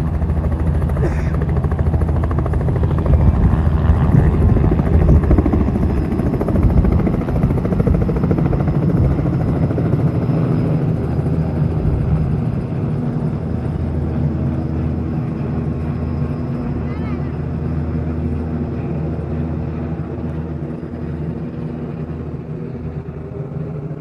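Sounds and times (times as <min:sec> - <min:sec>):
helicopter rotor and engine: 0:00.0 - 0:24.0.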